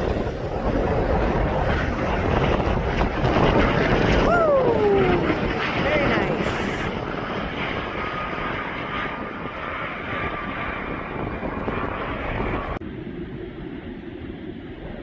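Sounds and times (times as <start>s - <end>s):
airplane engine rushing: 0.0s - 15.0s
low rumble: 0.0s - 15.0s.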